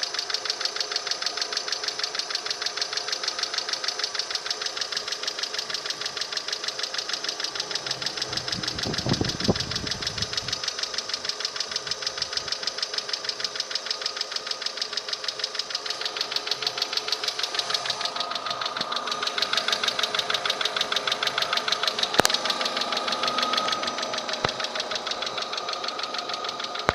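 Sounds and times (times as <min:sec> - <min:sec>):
car engine idling with tapping: 0:00.0 - 0:26.9
sharp click: 0:00.2 - 0:26.9.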